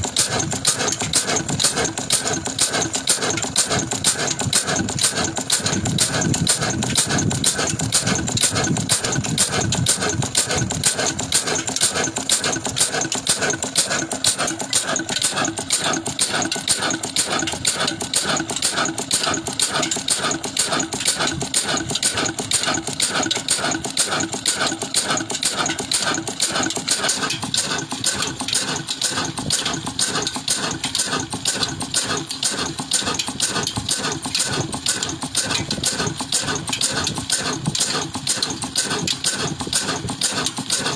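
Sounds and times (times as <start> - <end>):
diesel engine clattering: 0.0 - 40.9.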